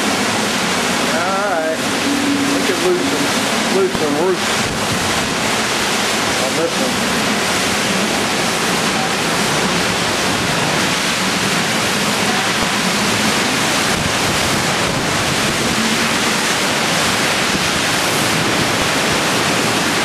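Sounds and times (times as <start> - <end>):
heavy rain: 0.0 - 20.0
hurricane wind: 0.0 - 20.0.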